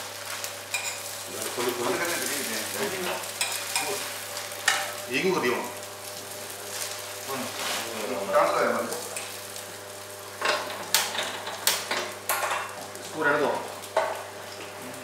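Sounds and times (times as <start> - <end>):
omelette sizzling in a pan: 0.0 - 15.0.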